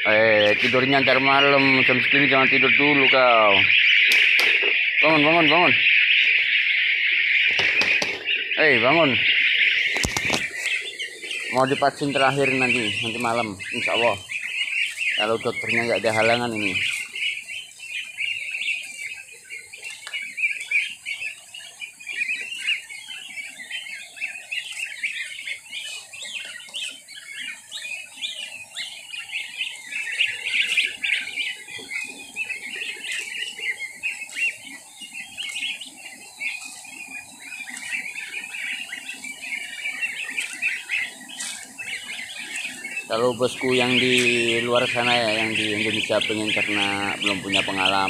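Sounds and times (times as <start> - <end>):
goslings peeping: 0.0 - 48.0.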